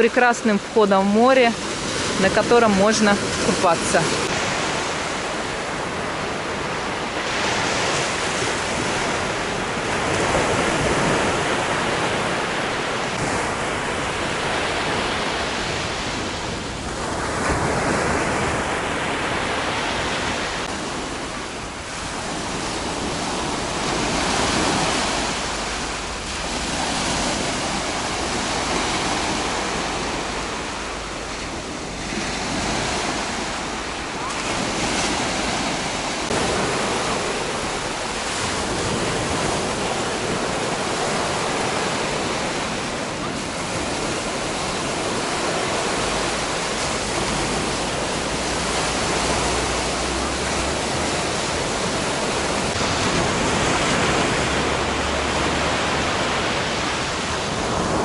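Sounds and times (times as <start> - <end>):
surf washing up a sandy beach: 0.0 - 58.0.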